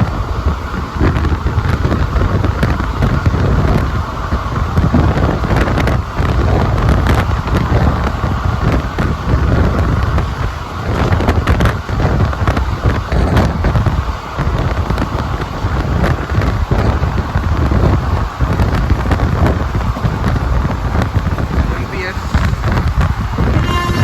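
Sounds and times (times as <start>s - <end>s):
train wheels rumbling on rails: 0.0s - 24.0s
wind buffeting microphone: 0.0s - 24.0s.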